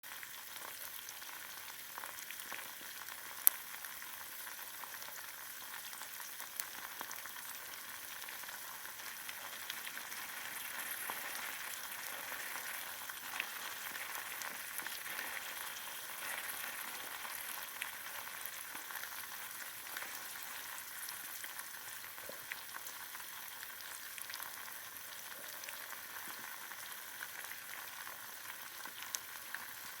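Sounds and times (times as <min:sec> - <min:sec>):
eggs sizzling in a pan: 0:00.0 - 0:30.0.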